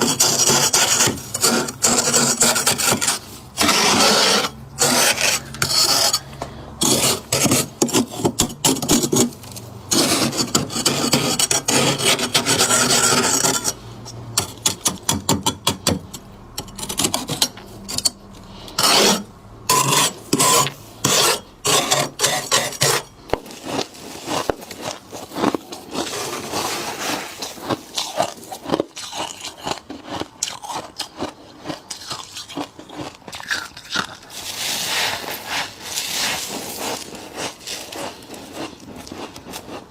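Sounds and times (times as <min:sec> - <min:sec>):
tool scraping thick frost: 0:00.0 - 0:30.2, 0:34.0 - 0:39.9.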